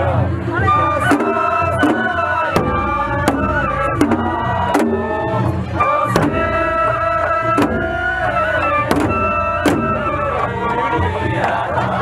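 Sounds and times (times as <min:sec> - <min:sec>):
taiko drum strikes: 0:01.0 - 0:12.0.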